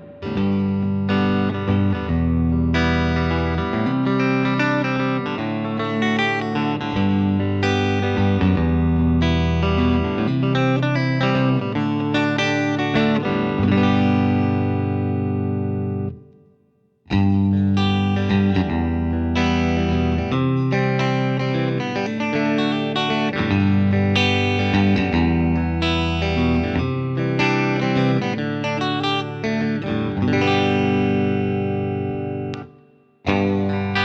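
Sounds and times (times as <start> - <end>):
clean electric guitar: 0.0 - 34.0.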